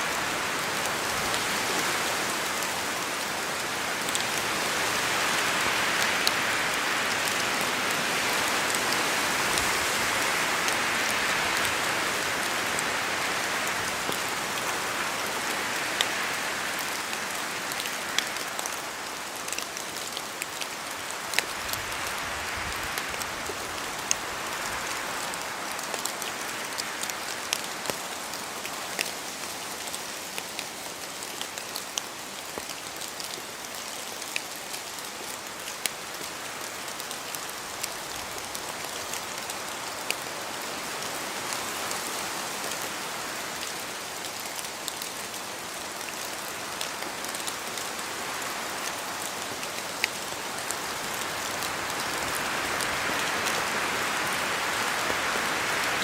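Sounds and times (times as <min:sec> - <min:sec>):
steady rain: 0:00.0 - 0:56.0
wind: 0:00.0 - 0:56.0.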